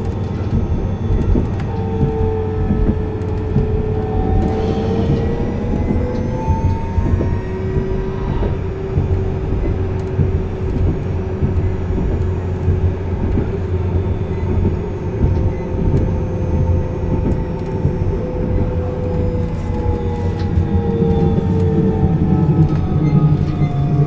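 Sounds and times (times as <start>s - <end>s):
low rumble: 0.0s - 24.0s
tram electrical whine: 0.0s - 24.0s.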